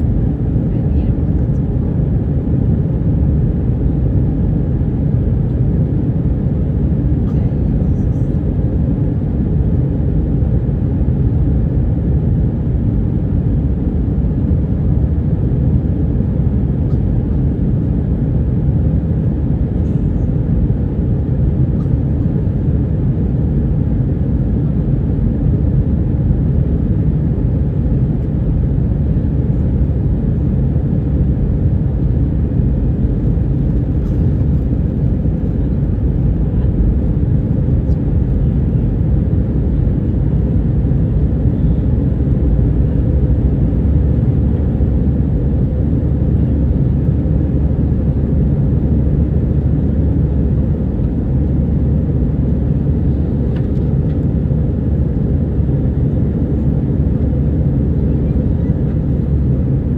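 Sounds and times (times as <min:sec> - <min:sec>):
jet cabin engine rumble: 0:00.0 - 0:59.9.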